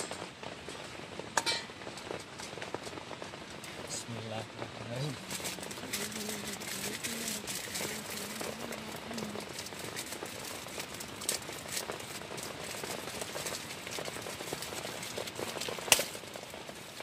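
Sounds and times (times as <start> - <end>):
heavy rain pattering on a tent: 0.0 - 17.0.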